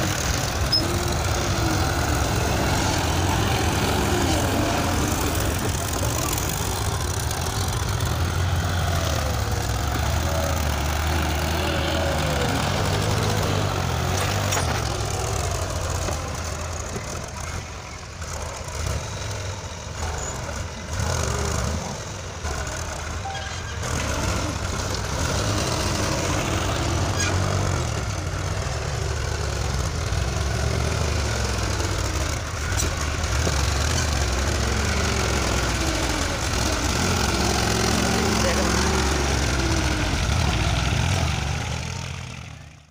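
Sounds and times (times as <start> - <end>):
tractor engines running hard: 0.0 - 42.9.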